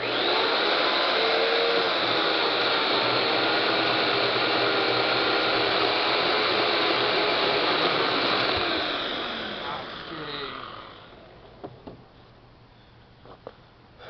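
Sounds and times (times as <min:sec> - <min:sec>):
chainsaw cutting log: 0:00.0 - 0:11.3.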